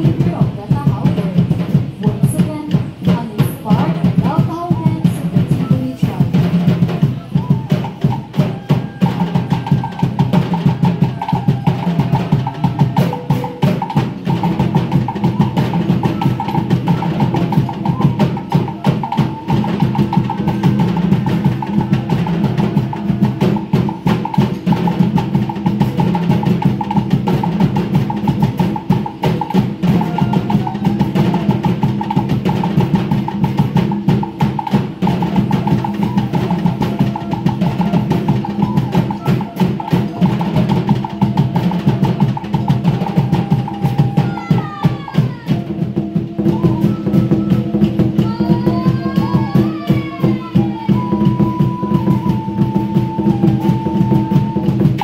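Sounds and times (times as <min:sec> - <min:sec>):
drum strokes with sticks: 0:00.0 - 0:55.0.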